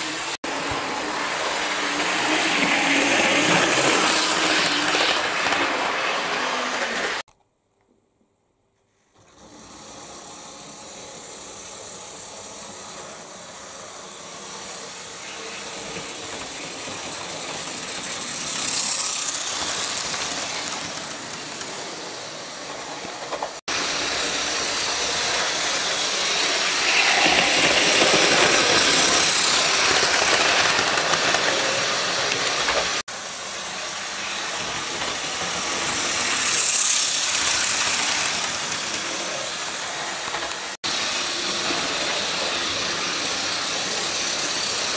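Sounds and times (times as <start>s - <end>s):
model trains whirring on track: 0.0s - 7.2s, 9.1s - 44.9s.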